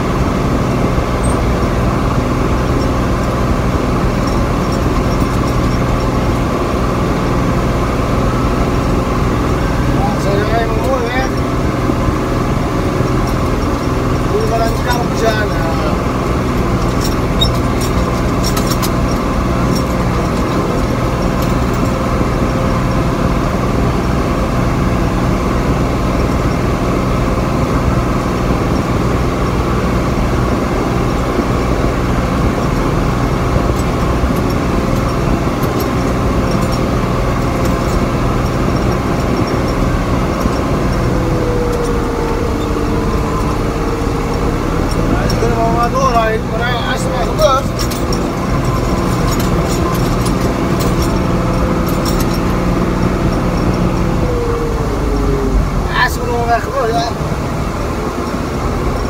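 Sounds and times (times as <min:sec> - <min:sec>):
light rattles: 0:00.0 - 0:59.0
tractor engine drone: 0:00.0 - 0:59.0.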